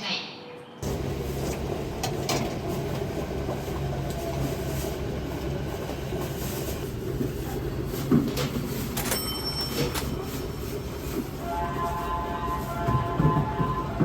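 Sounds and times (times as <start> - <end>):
constant low hum: 0.8 - 14.0
train rumble: 0.8 - 14.0.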